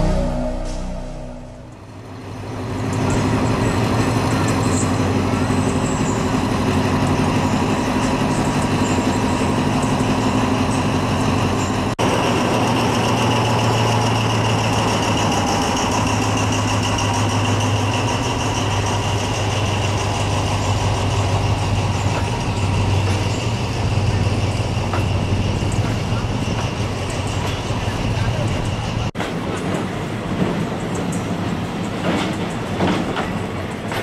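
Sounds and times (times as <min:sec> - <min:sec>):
diesel locomotive engine idling: 0:00.0 - 0:29.1.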